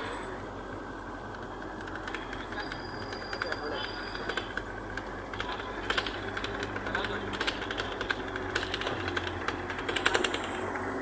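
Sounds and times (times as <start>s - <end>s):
train clicks and rattles: 0.0s - 10.9s
train rumbling: 0.0s - 11.0s.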